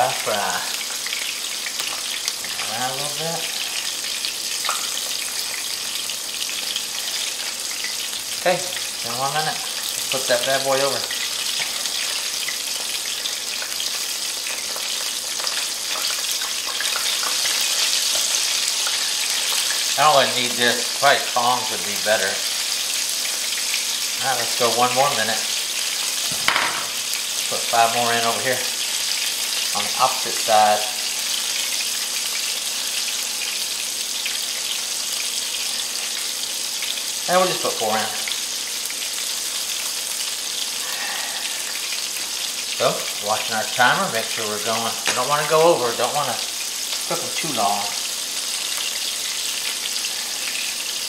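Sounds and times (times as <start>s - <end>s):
shrimp deep-frying in hot oil: 0.0s - 51.0s.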